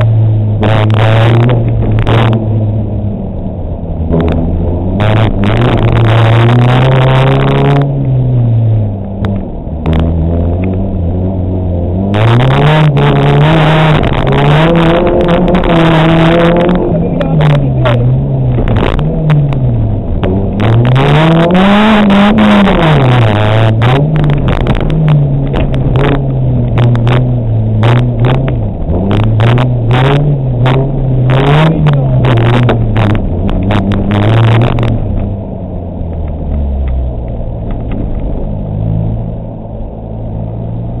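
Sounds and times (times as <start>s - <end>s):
rally car engine revving: 0.0s - 41.0s.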